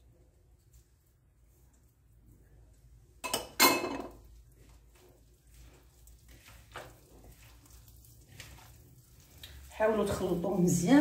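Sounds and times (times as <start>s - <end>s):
hands rustling crumbly mixture: 0.0s - 3.2s, 4.2s - 11.0s.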